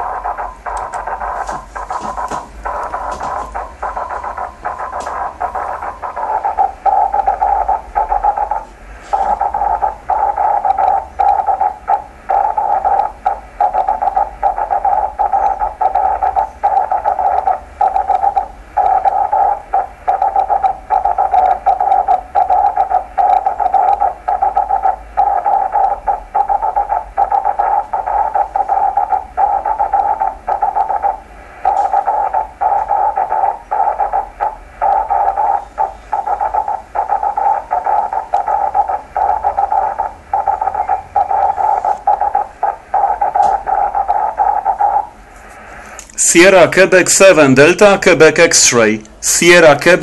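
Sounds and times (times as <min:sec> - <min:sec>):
hissing buzz radio signal: 0:00.0 - 0:50.0.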